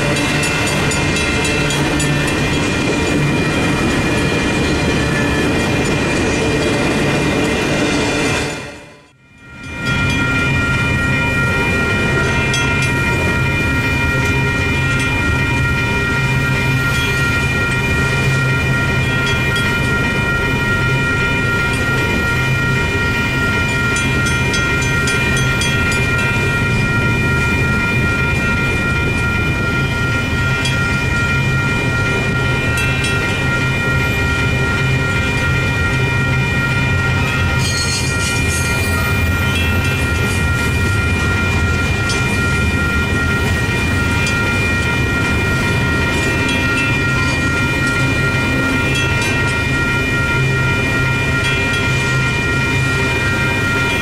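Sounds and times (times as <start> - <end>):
crossing warning bell ringing: 0.0 - 54.0
freight train rumbling: 0.0 - 54.0.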